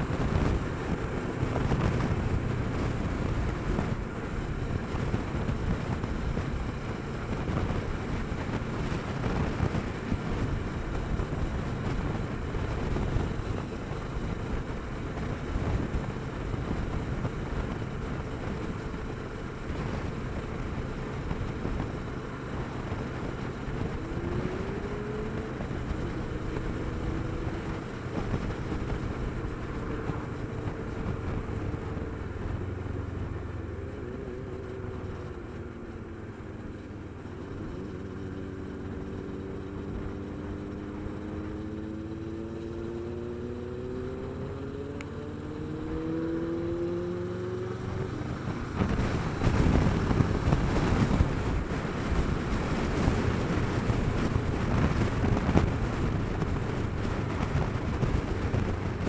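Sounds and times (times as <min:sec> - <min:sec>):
motorcycle engine accelerating: 0:00.0 - 0:59.0
wind rushing over microphone: 0:00.0 - 0:59.0.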